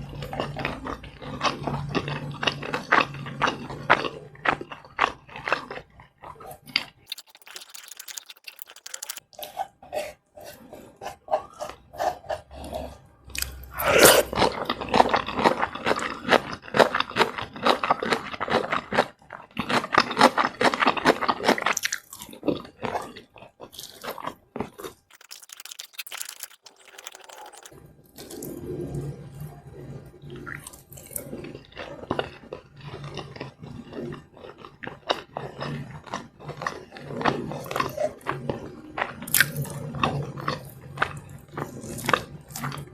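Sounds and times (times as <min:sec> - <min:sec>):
crunching and chewing food: 0:00.0 - 0:42.9.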